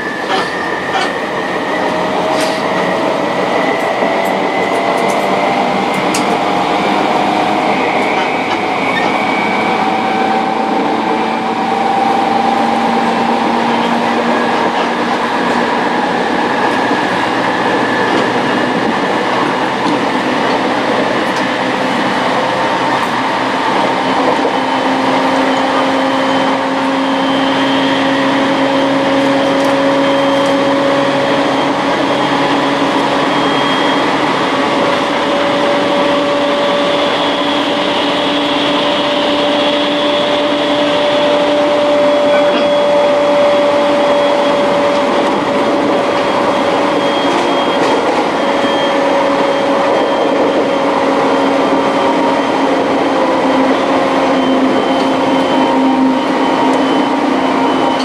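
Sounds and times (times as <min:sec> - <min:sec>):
train rolling rumble: 0:00.0 - 0:58.0
train whine: 0:00.0 - 0:58.0.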